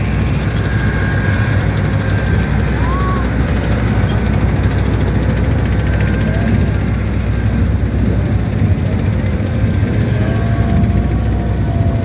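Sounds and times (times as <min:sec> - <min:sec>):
diesel engines rumbling: 0:00.0 - 0:12.0.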